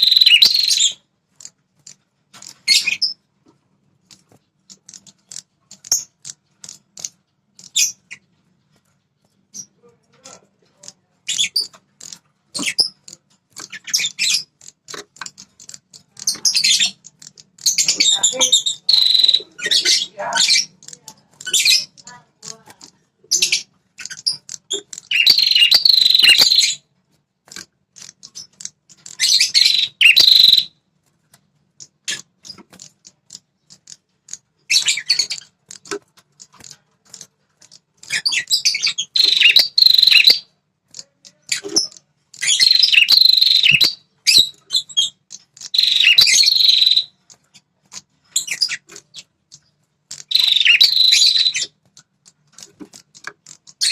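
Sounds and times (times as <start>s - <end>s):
songbird chattering song: 0.0s - 3.2s, 9.5s - 26.8s, 27.9s - 30.8s, 31.8s - 53.9s.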